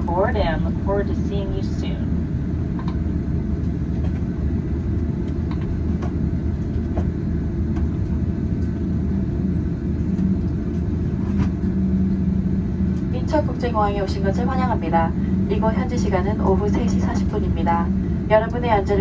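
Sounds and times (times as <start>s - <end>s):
airliner cabin rumble: 0.0s - 19.0s
low hum: 0.0s - 19.0s.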